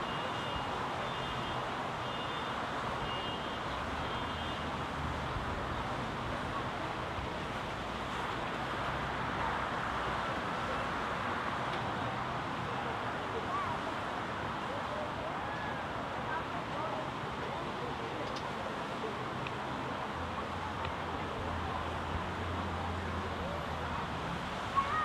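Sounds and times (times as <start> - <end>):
distant road traffic: 0.0 - 25.0
fountain spraying water: 0.0 - 25.0.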